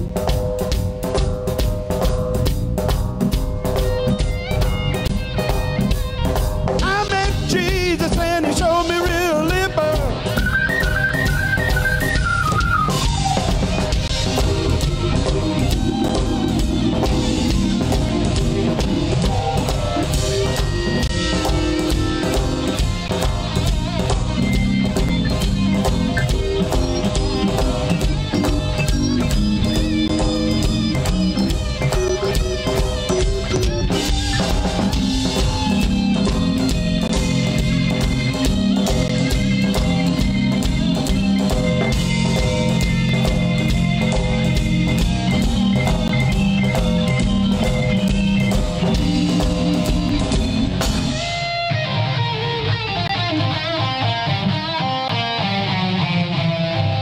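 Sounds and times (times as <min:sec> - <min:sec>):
bass guitar: 0:00.0 - 0:57.0
drum kit: 0:00.0 - 0:57.0
electric guitar: 0:00.0 - 0:57.0.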